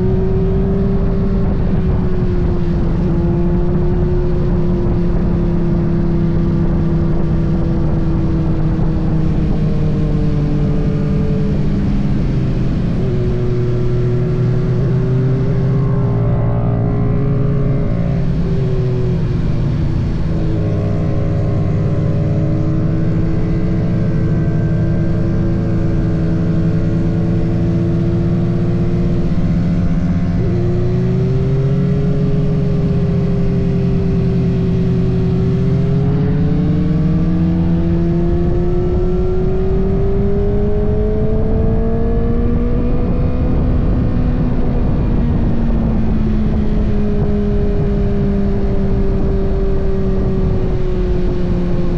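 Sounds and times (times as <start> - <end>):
wind rush on microphone: 0.0 - 51.9.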